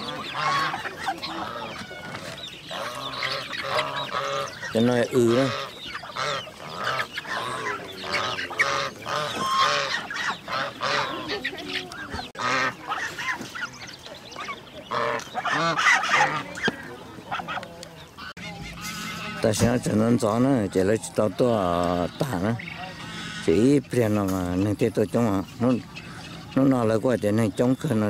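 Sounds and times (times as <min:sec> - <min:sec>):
poultry calling: 0:00.0 - 0:28.0.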